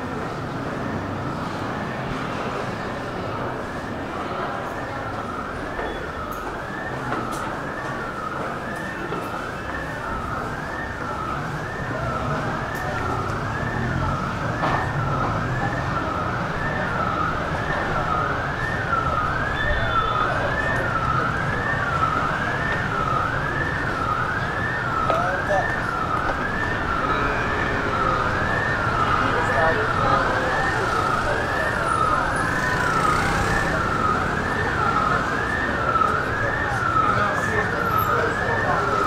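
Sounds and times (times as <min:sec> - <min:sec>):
emergency vehicle siren: 0:00.0 - 0:39.0.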